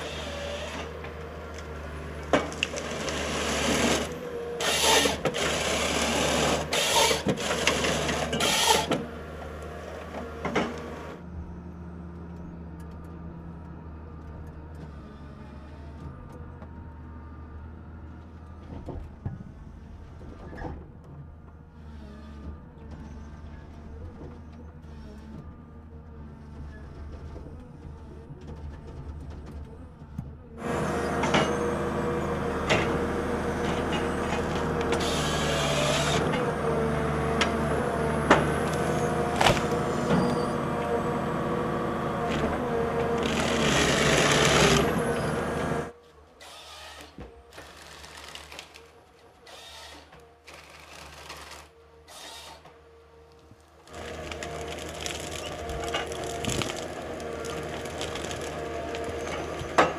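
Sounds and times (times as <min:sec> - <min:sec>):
harsh mechanical noise: 0:00.0 - 0:09.1, 0:18.2 - 0:52.8, 0:53.6 - 0:59.9
diesel engine and hydraulics: 0:00.0 - 0:59.9.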